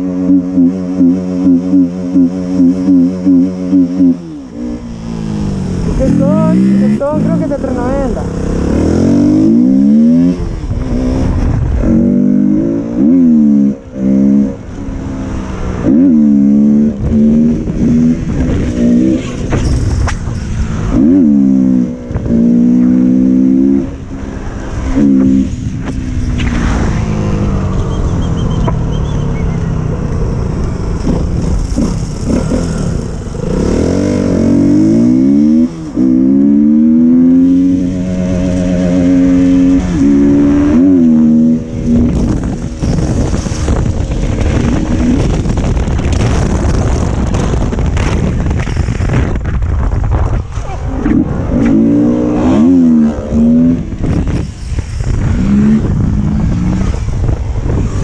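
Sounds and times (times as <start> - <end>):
motorcycle engine revving: 0.0 - 58.0
steady rushing noise: 3.9 - 58.0.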